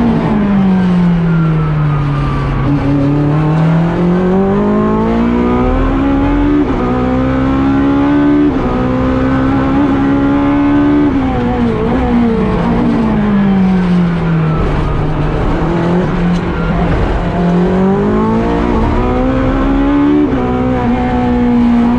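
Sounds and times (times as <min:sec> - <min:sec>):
race car engine revving: 0:02.6 - 0:21.9.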